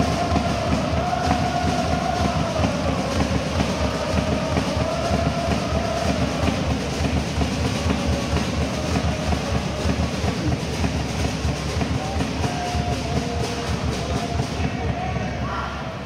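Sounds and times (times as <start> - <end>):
crowd chanting: 0.0 - 16.0.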